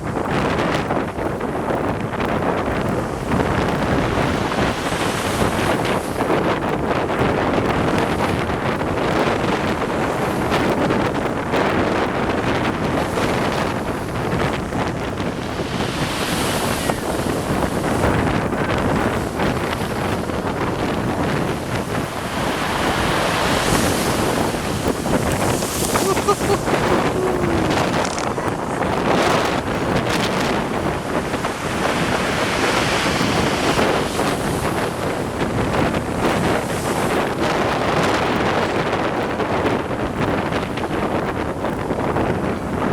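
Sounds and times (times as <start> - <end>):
surf breaking on shore: 0.0 - 42.9
wind buffeting microphone: 0.0 - 42.9.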